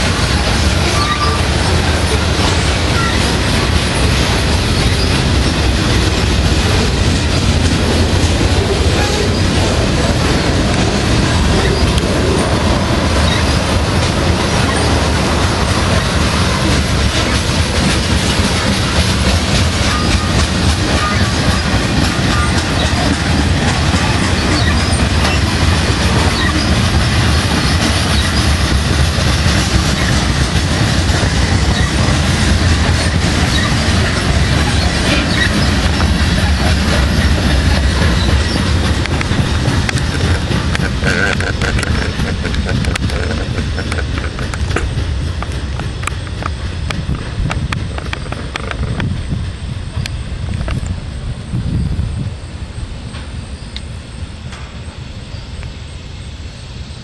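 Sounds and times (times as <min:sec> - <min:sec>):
steel train wheels on rails: 0:00.0 - 0:57.0.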